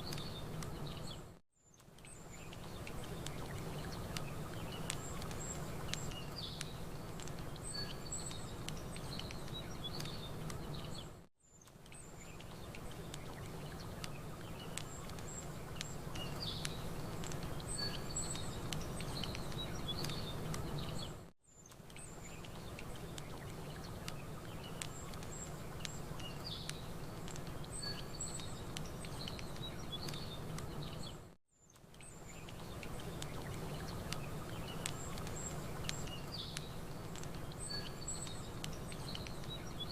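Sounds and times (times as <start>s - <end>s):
birds chirping: 0.0s - 1.4s, 2.0s - 31.3s, 32.0s - 39.9s
fire crackling and popping: 1.8s - 11.0s, 11.6s - 31.2s, 31.8s - 39.9s.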